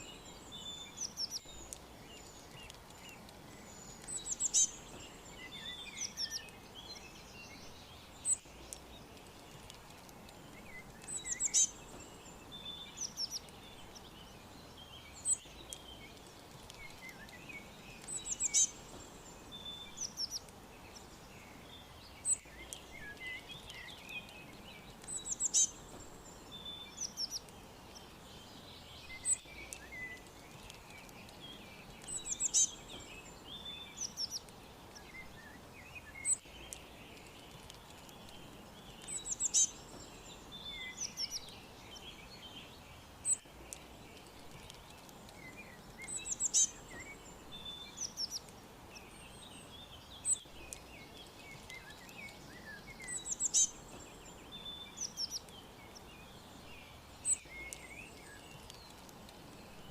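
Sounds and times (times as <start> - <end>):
faint outdoor background: 0.0 - 59.9
soft scattered bird chirps: 0.0 - 59.9.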